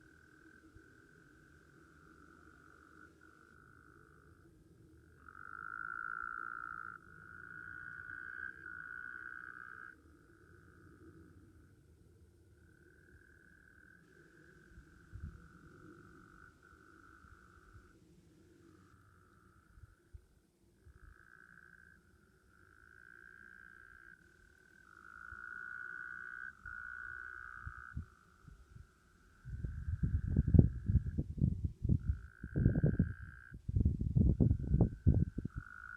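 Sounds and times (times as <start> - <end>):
frogs trilling: 0.0 - 11.8, 12.5 - 20.2, 20.8 - 31.2, 32.0 - 33.6, 34.6 - 35.9.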